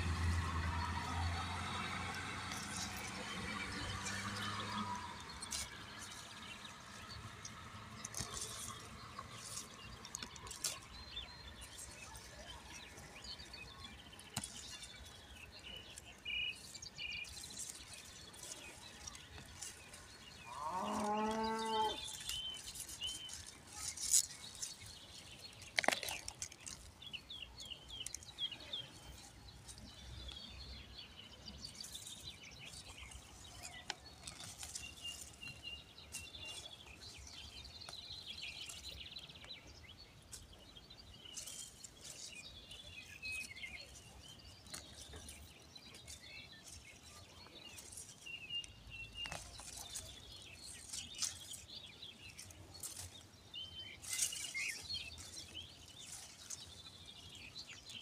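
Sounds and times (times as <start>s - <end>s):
seedlings rustling: 0.0s - 30.8s, 40.3s - 58.0s
small birds chirping: 0.0s - 58.0s.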